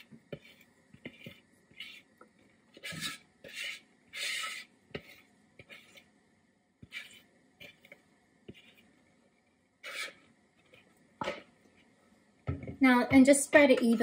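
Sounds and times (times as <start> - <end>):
spatula scraping mixing bowl: 0.0 - 6.2, 6.8 - 11.9.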